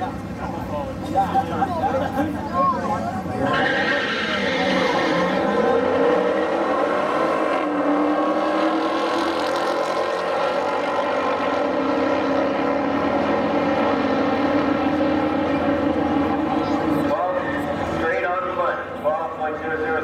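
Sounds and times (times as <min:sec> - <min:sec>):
muscle car engines at full throttle: 0:00.0 - 0:20.0.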